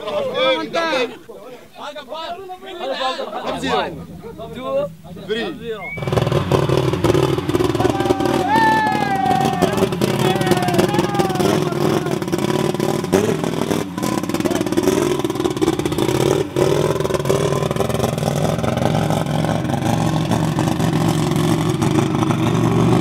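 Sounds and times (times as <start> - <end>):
truck engine running: 2.5 - 23.0.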